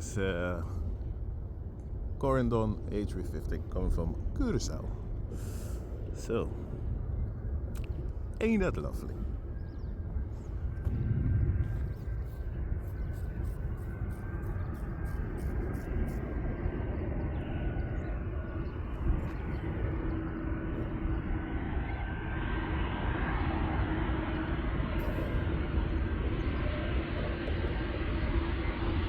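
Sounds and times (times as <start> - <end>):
jet airliner engine rumble: 0.0 - 29.0.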